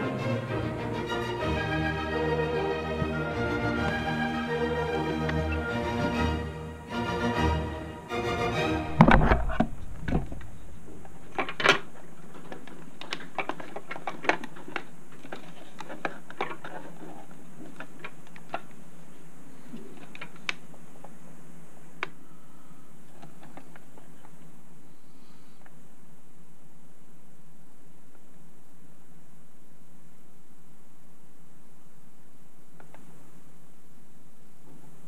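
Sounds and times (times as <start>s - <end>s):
steady low hiss: 0.0s - 35.0s.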